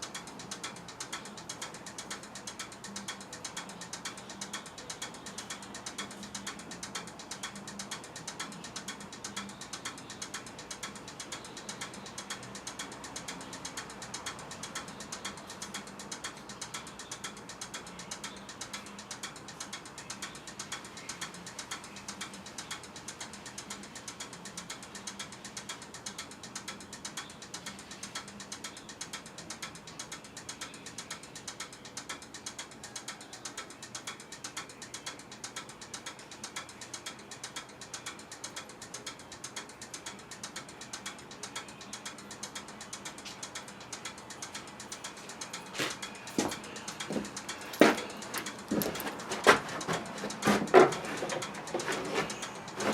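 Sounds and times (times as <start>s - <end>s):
rapid steady clicking: 0.0s - 52.9s.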